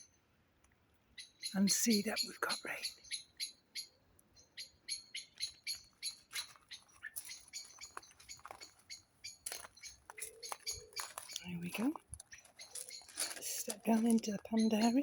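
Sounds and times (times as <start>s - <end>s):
blackbird alarm calls: 1.2s - 15.0s.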